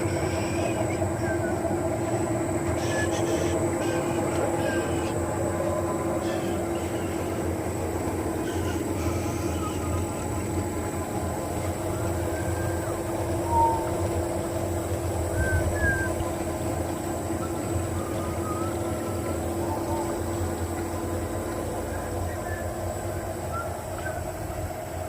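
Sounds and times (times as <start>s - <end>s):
high whine: 0.0s - 25.0s
machinery rumble and hum: 0.0s - 25.0s.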